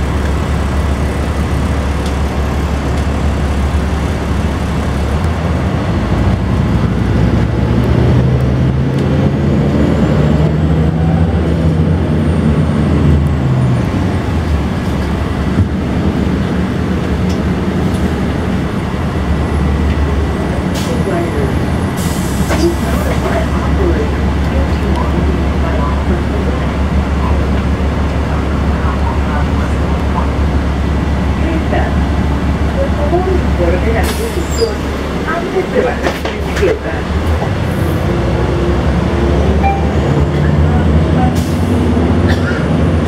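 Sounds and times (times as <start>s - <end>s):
bus diesel engine rumbling: 0.0s - 43.0s.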